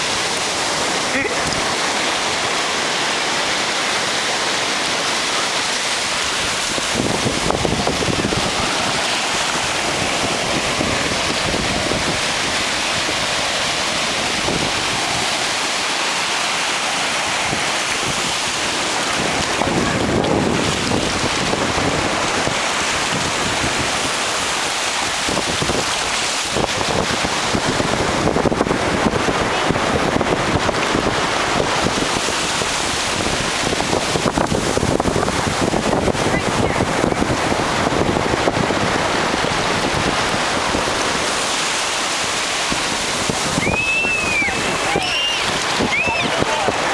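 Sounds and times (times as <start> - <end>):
ocean surf on a beach: 0.0 - 46.9
wind buffeting microphone: 5.2 - 46.9.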